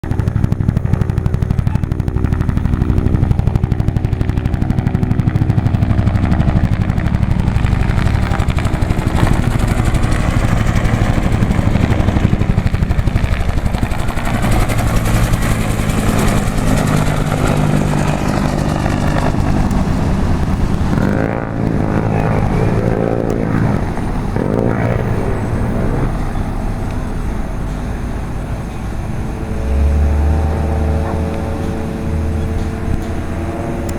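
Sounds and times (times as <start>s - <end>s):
helicopter rotors beating: 0.0s - 33.9s.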